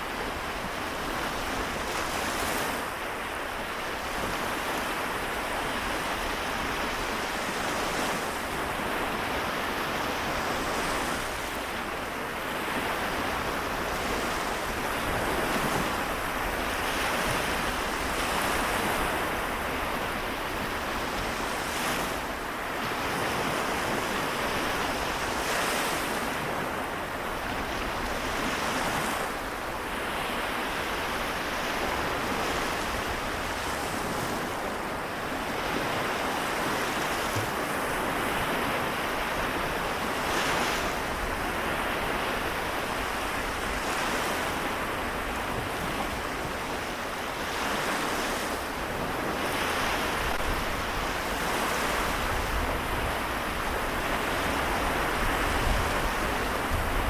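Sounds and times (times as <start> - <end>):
small waves washing onto shore: 0.0 - 57.0
wind noise on microphone: 0.0 - 57.0.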